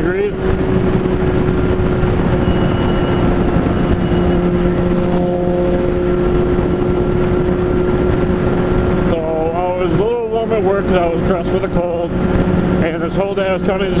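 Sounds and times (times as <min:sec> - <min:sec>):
motorcycle engine cruising: 0:00.0 - 0:14.0
road rumble: 0:00.0 - 0:14.0
wind on microphone: 0:00.0 - 0:14.0.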